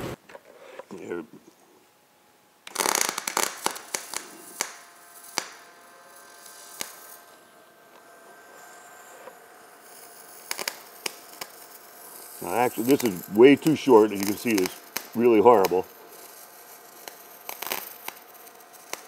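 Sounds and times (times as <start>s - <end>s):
faint steady hum: 0.0s - 19.0s
welding arc crackling and popping: 2.6s - 19.0s.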